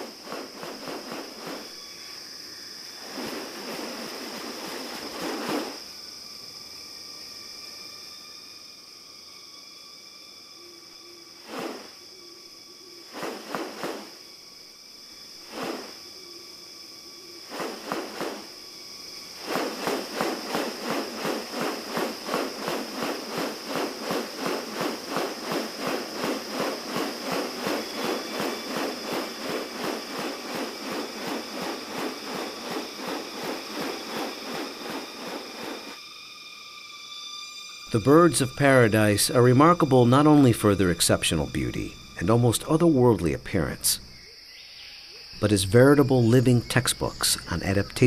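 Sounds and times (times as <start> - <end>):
insects droning: 0.0 - 48.0
rapid repeated insect pulses: 0.0 - 48.0.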